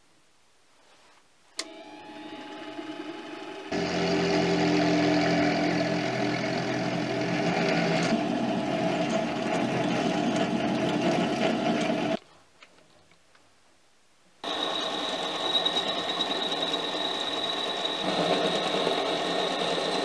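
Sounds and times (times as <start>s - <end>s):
drill cutting into metal: 1.6s - 12.2s, 14.4s - 20.0s
lathe motor and gear whine: 1.6s - 12.2s, 14.4s - 20.0s.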